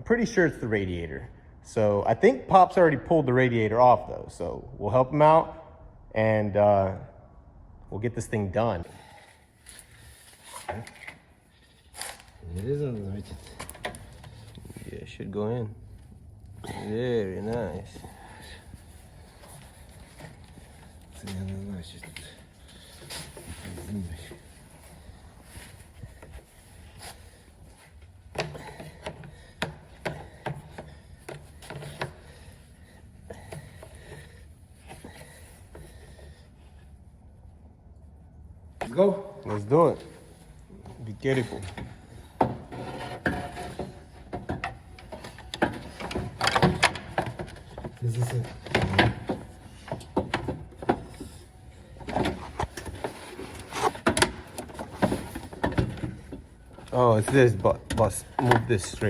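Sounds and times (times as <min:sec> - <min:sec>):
knocks clunks and scrapes: 0:08.8 - 0:36.8, 0:38.7 - 0:59.0.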